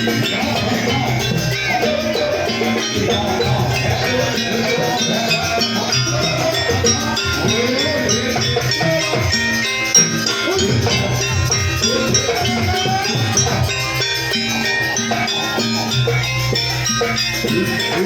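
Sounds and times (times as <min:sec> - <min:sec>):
gamelan drums and gong-chimes: 0:00.0 - 0:18.0.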